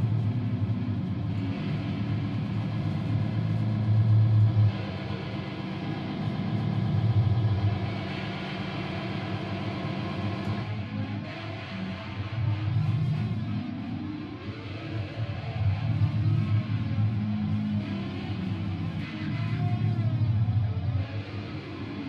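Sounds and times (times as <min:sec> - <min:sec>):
guitar effects drone: 0:00.0 - 0:22.0.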